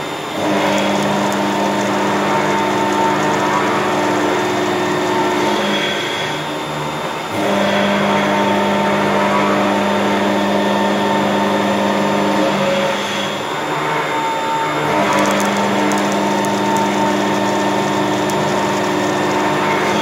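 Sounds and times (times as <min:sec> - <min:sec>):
milling machine cutting metal: 0:00.0 - 0:20.0.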